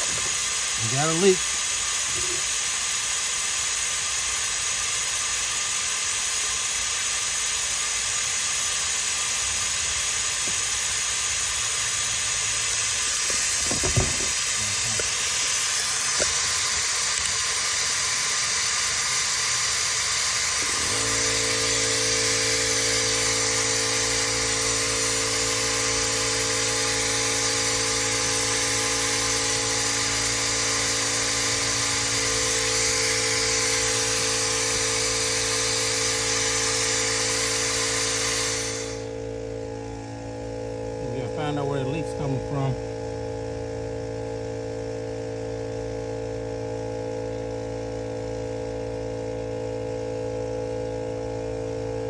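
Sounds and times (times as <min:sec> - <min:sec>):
compressed air hissing: 0:00.0 - 0:49.2
air compressor motor hum: 0:00.0 - 0:52.0.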